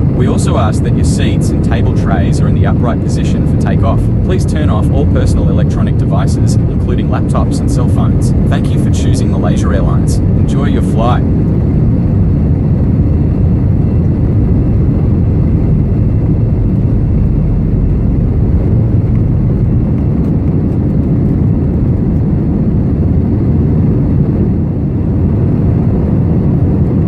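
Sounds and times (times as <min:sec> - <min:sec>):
jet engines roaring on takeoff: 0:00.0 - 0:27.0.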